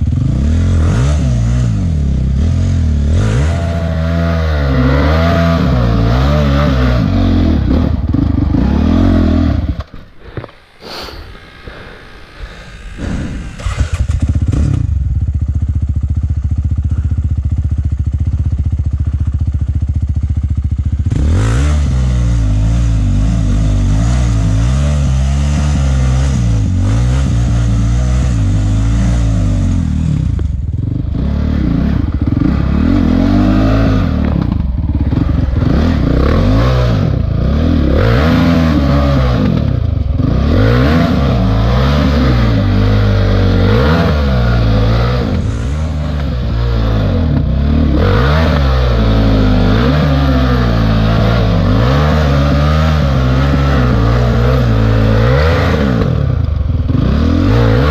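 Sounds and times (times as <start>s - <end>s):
dirt bike engine blipping: 0.0s - 57.9s.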